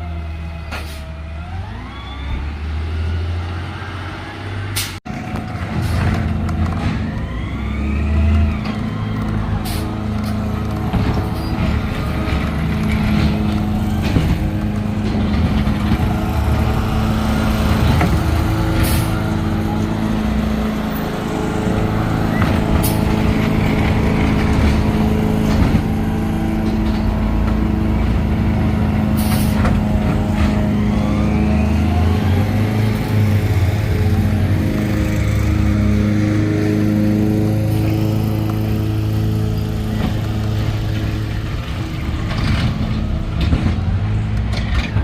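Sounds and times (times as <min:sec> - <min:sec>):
garbage truck engine running: 0:04.8 - 0:45.0.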